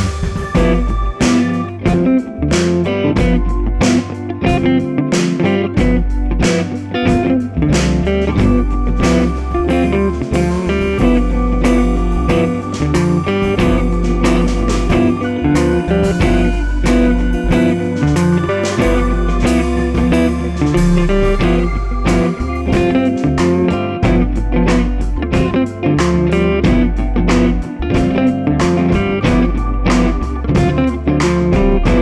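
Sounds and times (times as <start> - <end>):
blues-rock guitar music: 0.0 - 32.0.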